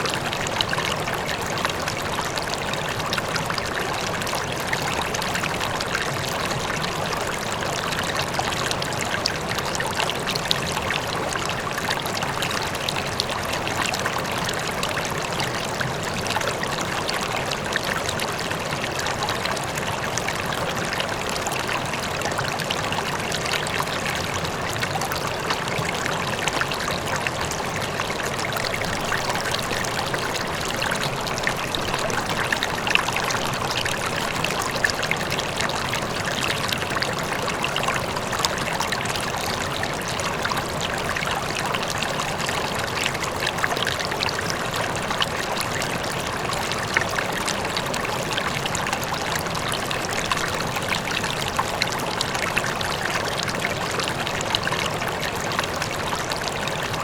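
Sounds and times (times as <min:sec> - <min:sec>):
distant waterfall: 0:00.0 - 0:55.8
river flowing over stones: 0:00.0 - 0:57.0.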